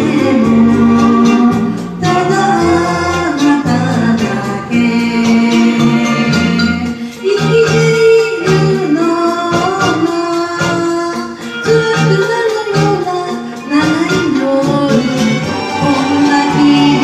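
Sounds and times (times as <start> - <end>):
instrumental accompaniment with beat: 0.0 - 17.0
person singing: 0.0 - 17.0.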